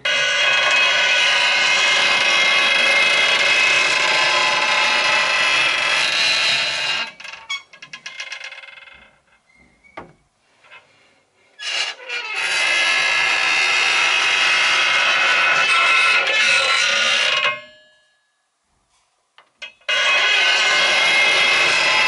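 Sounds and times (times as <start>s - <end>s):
wooden panel creaking and scraping: 0.0s - 17.6s, 19.4s - 22.0s.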